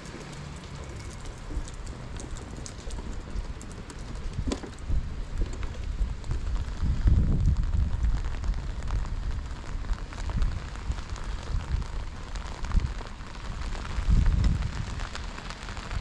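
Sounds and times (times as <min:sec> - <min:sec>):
rain pattering on paving: 0:00.0 - 0:16.0
wind buffeting microphone: 0:00.0 - 0:16.0.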